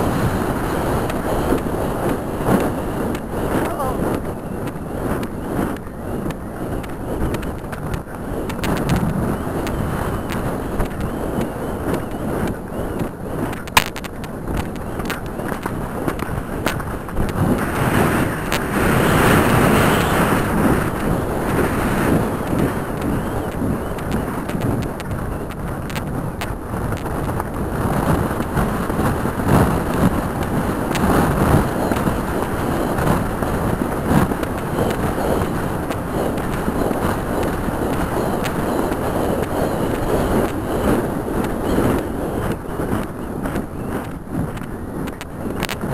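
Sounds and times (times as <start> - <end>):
wind rushing over microphone: 0.0 - 45.9
horse hoofbeats: 0.1 - 45.9.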